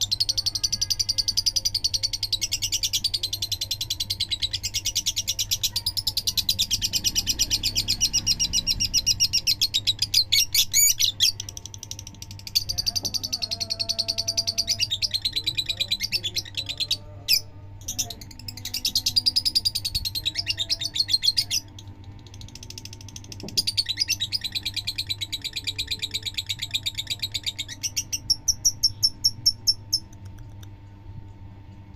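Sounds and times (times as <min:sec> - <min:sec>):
lovebird chattering: 0:00.0 - 0:30.6.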